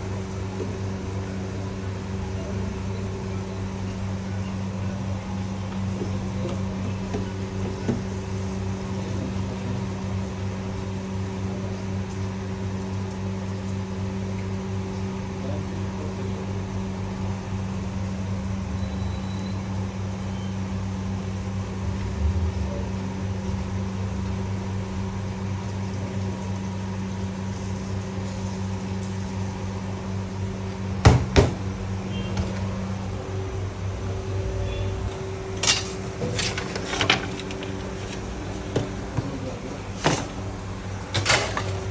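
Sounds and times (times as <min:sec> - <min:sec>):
appliance electric hum: 0:00.0 - 0:41.9.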